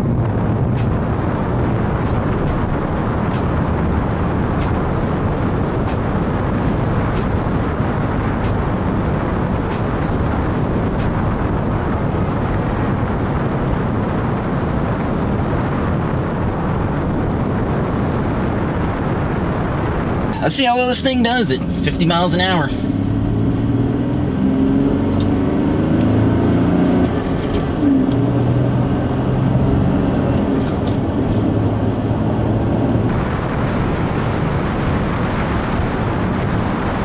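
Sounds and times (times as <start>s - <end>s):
road noise: 0.0s - 37.0s
wind over microphone: 0.0s - 37.0s.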